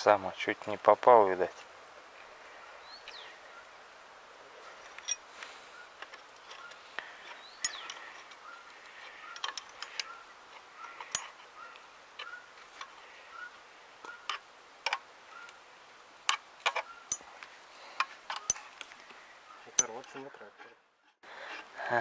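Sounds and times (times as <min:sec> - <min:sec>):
birds chirping: 0:01.4 - 0:21.5.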